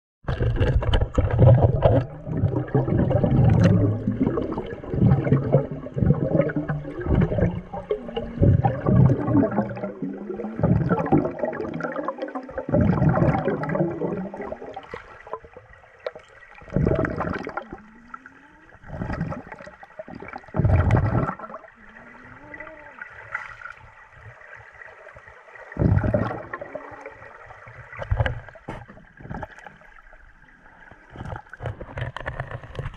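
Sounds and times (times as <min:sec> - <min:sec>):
water sloshing and gurgling: 0:00.2 - 0:32.9.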